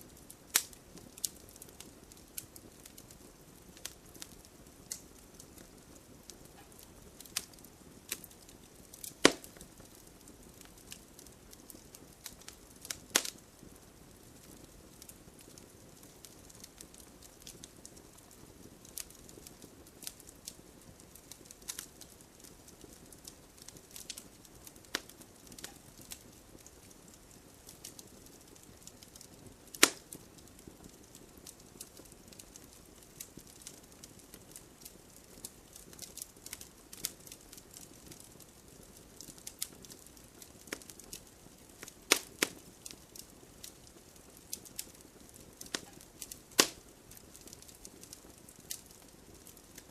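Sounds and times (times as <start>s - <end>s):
soft steady hiss: 0.0s - 49.9s
wood campfire crackling: 0.0s - 49.9s
loud fire pops: 0.4s - 38.5s, 41.8s - 49.9s.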